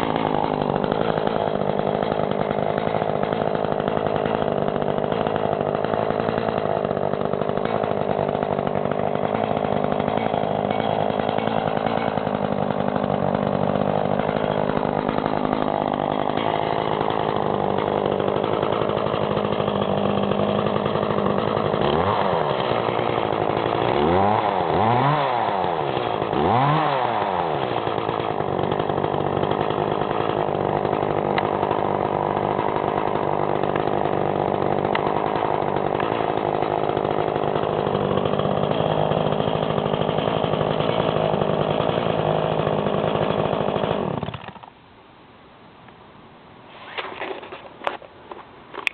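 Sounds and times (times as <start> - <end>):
chainsaw idling and revving: 0.0 - 44.8.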